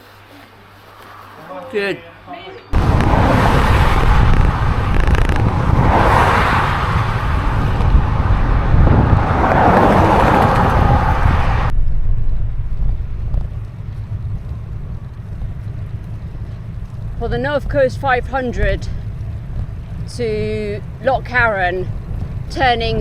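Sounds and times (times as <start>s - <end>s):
traffic going by: 0.7s - 11.8s, 12.7s - 23.0s
wind rumbling on microphone: 2.7s - 23.0s.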